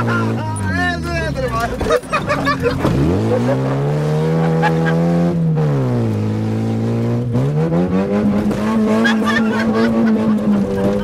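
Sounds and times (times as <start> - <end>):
car engine revving under load: 1.4 - 11.0.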